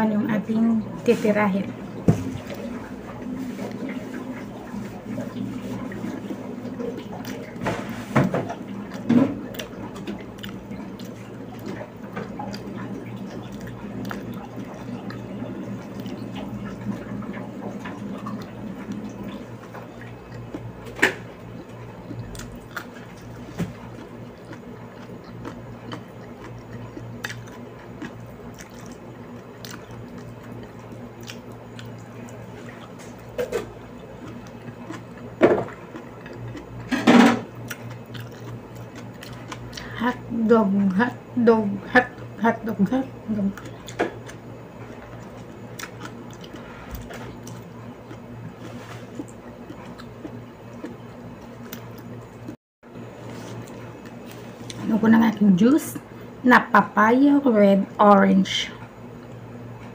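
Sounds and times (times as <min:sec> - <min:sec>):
steady low hum: 0:00.0 - 0:59.9
person chewing food: 0:02.3 - 0:40.2, 0:42.0 - 0:52.6.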